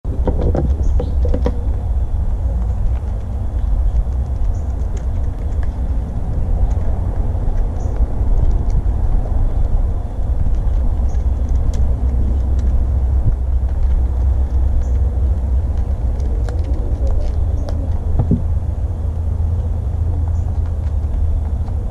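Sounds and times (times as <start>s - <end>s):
low rumble: 0.0s - 21.9s.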